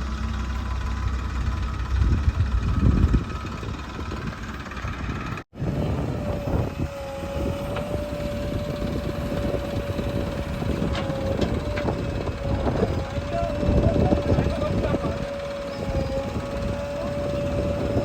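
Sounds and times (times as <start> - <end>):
heavy diesel engine running: 0.0 - 18.0
steady machine whine: 0.0 - 18.0.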